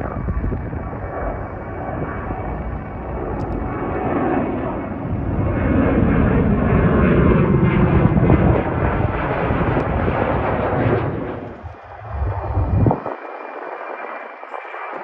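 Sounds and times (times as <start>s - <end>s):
jet engines climbing overhead: 0.0s - 15.0s.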